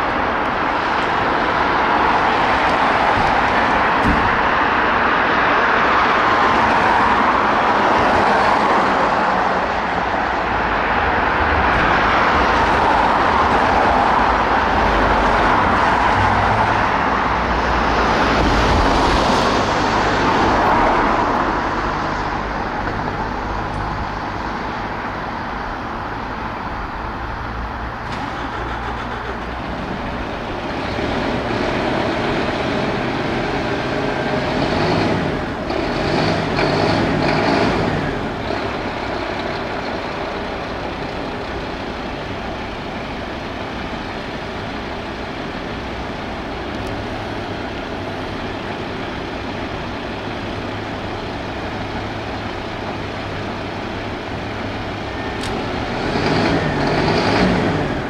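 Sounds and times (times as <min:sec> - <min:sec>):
heavy vehicle engines: 0:00.0 - 0:58.0
road traffic: 0:00.0 - 0:58.0.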